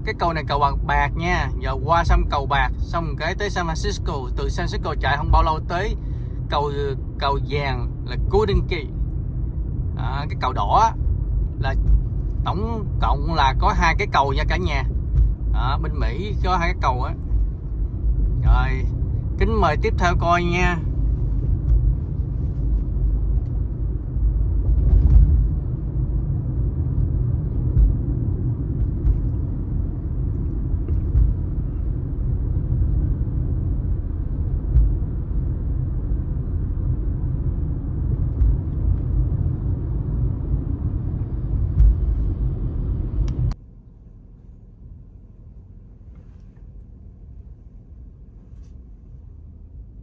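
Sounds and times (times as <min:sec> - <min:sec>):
car road and engine rumble: 0:00.0 - 0:50.0.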